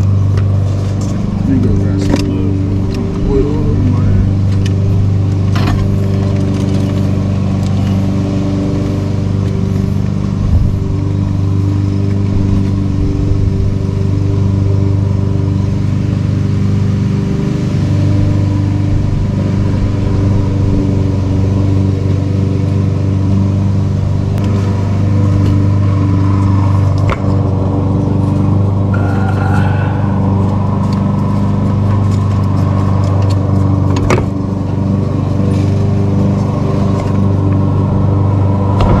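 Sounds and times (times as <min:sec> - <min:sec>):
lawn mower engine running: 0:00.0 - 0:39.0.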